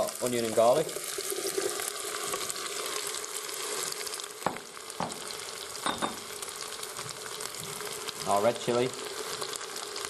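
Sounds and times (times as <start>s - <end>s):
onion sizzling in hot oil: 0.0s - 10.0s.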